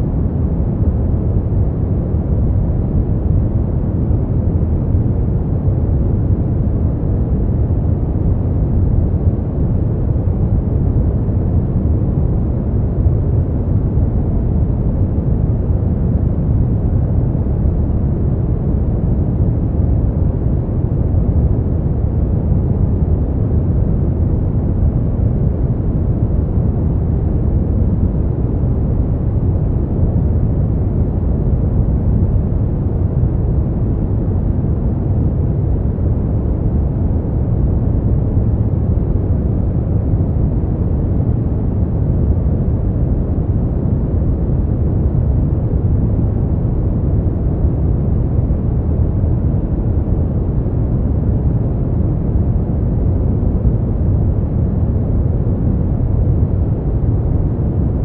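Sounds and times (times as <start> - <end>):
deep rumbling brown noise: 0.0 - 58.0.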